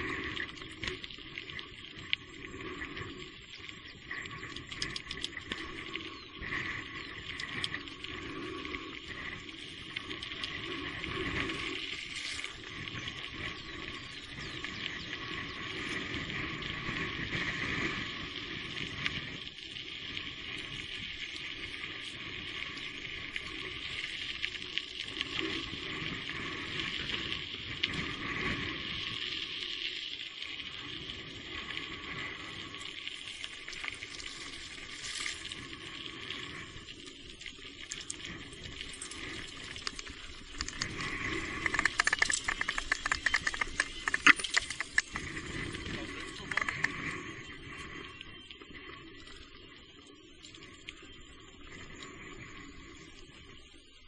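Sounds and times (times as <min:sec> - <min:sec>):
small crackles and ticks: 0:00.0 - 0:54.0.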